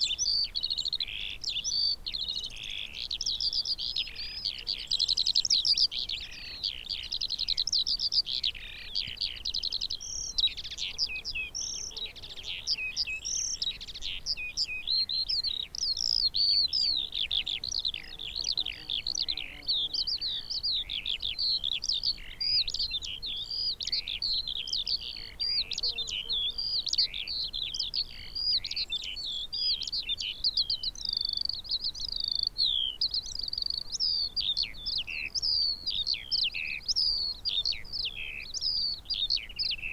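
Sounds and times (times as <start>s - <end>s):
skylark singing: 0.0s - 39.9s.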